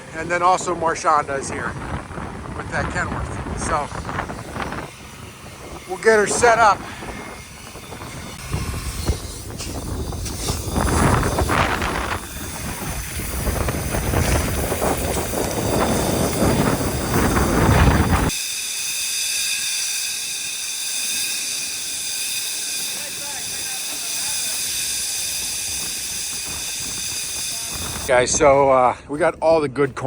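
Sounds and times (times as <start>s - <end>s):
grain vacuum rushing: 0.2s - 28.1s.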